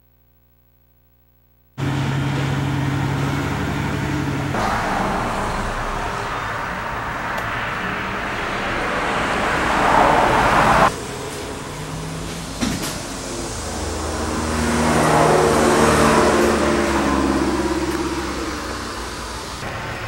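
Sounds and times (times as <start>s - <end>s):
diesel truck engine running: 1.8s - 20.0s
traffic noise: 1.8s - 20.0s.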